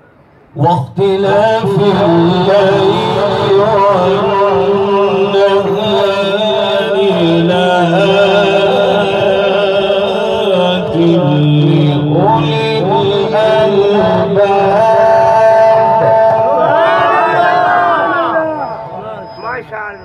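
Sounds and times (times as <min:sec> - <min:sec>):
man reciting melodically: 0:00.5 - 0:20.0.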